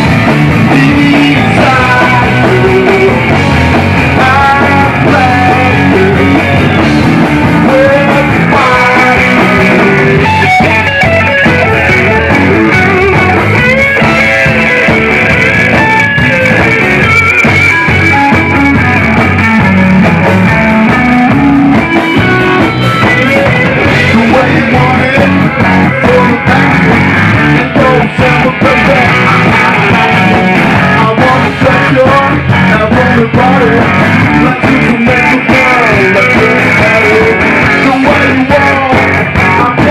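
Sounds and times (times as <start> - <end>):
rock music with guitar: 0.0 - 39.9.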